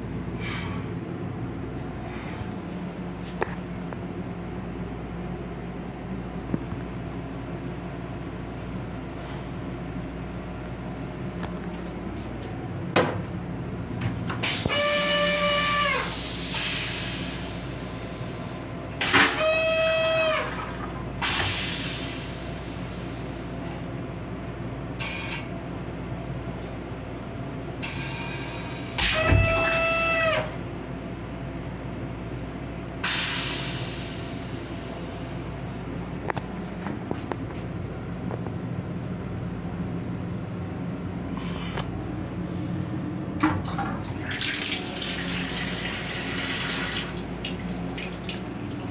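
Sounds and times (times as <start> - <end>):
railcar hum: 0.0 - 19.1, 21.0 - 29.0, 30.6 - 44.2.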